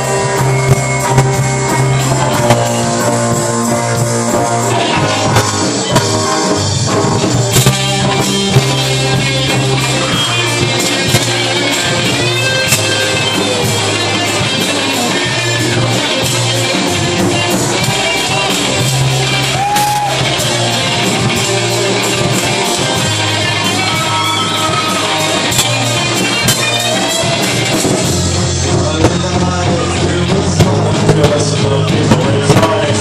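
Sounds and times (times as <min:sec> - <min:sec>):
drum kit: 0:00.0 - 0:33.0
electric guitars: 0:00.0 - 0:33.0.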